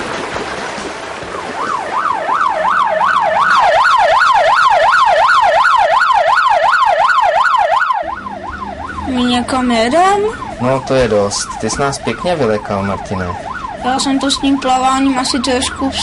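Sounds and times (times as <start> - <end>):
ambulance siren yelping: 1.3 - 16.0.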